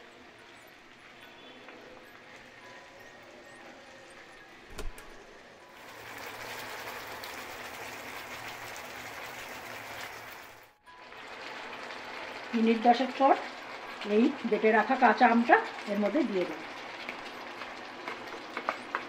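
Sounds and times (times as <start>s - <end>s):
chicken sizzling in a pan: 0.0s - 4.3s, 5.7s - 19.0s.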